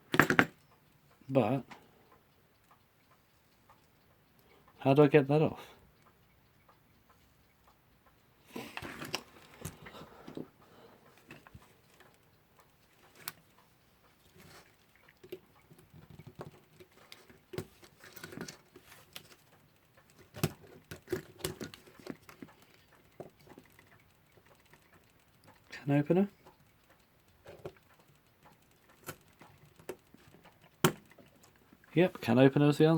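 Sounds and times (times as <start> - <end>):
small metal clicks: 0.1 - 4.7, 6.0 - 32.9.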